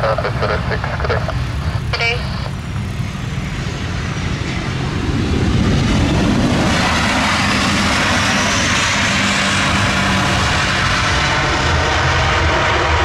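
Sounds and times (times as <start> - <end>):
jet engine rushing noise: 0.0 - 13.0.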